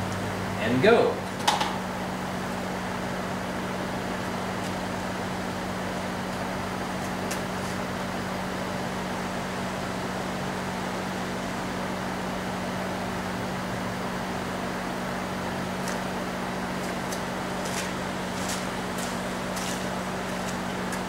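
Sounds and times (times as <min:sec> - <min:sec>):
machine hum with airy hiss: 0:00.0 - 0:21.0.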